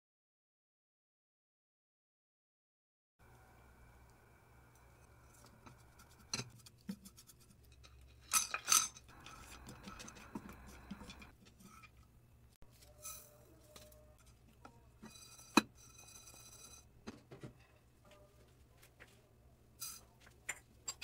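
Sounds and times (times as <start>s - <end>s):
faint steady hum: 3.2s - 21.0s.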